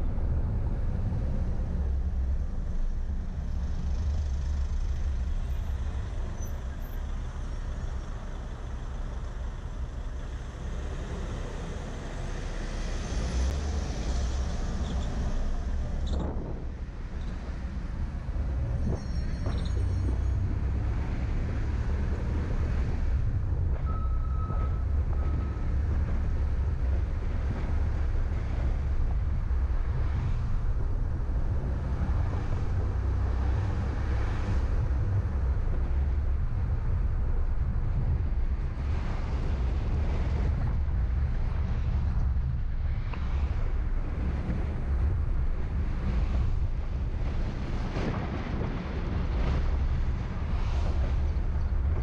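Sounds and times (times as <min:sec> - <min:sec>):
wind noise on microphone: 0:00.0 - 0:08.2, 0:09.0 - 0:52.0
car engine and road rumble: 0:00.0 - 0:52.0.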